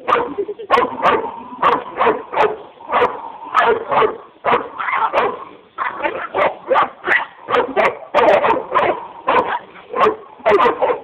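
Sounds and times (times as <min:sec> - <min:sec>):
dog barking rapidly: 0:00.0 - 0:11.0.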